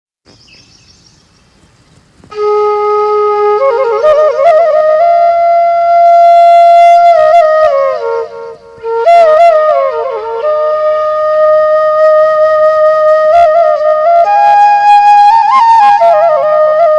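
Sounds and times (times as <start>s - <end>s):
flute melody with trills: 2.3s - 16.9s.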